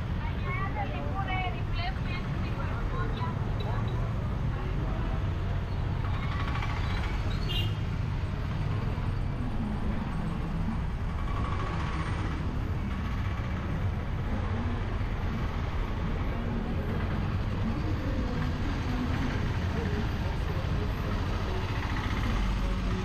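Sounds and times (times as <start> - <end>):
vehicle engines running: 0.0 - 23.0.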